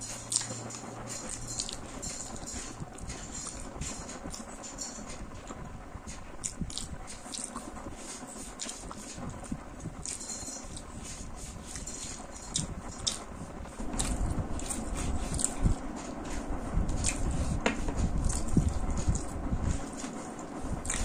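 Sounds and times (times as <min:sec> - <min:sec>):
chewing food: 0:00.0 - 0:21.0.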